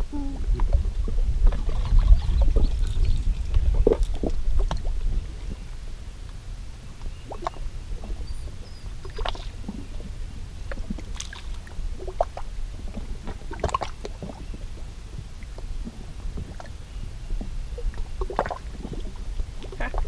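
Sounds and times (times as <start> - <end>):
low steady rumble: 0.0 - 20.0
waves lapping against rocks: 0.4 - 20.0.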